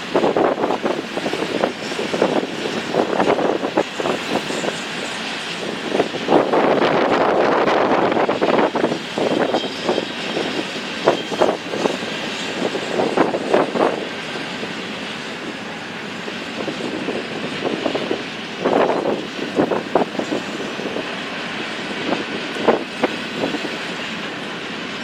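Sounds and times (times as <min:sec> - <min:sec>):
railroad cars rumbling: 0:00.0 - 0:25.0
train wheels clacking on rails: 0:00.0 - 0:25.0.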